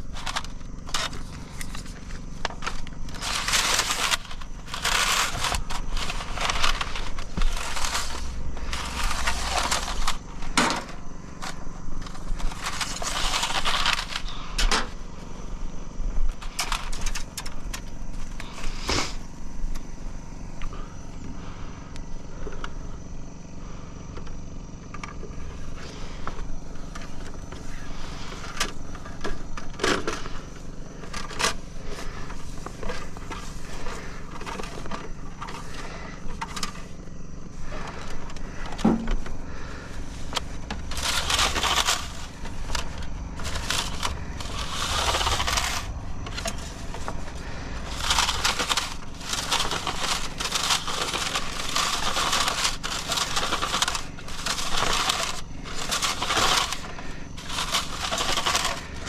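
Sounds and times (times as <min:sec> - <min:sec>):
digging in stony soil: 0:00.0 - 0:14.6, 0:25.4 - 0:59.0
low engine hum: 0:00.0 - 0:59.0.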